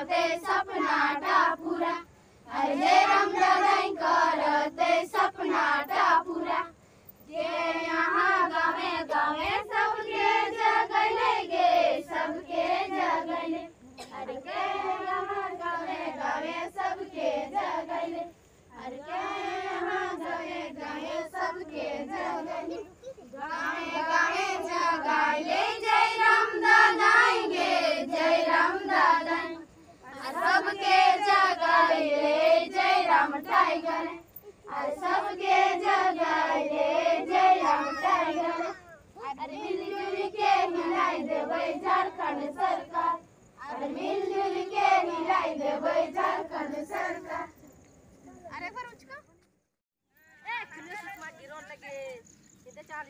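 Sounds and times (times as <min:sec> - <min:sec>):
girls singing in unison: 0:00.0 - 0:47.6.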